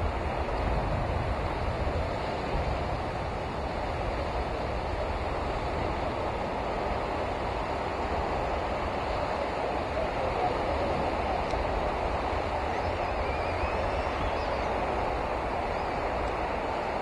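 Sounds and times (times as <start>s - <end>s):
surf: 0.0s - 17.0s
wind: 0.0s - 17.0s
wind rumbling on microphone: 0.0s - 17.0s.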